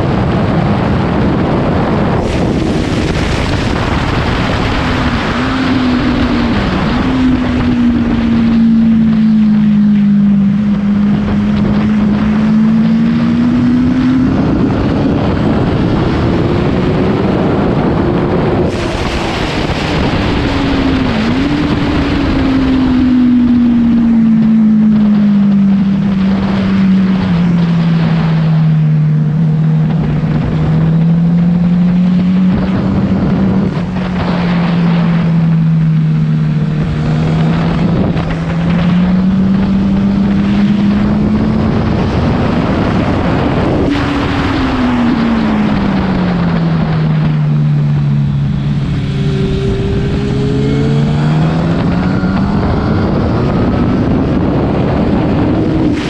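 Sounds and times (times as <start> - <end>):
motorcycle engine revving: 0.0 - 56.0
wind noise on microphone: 0.0 - 56.0.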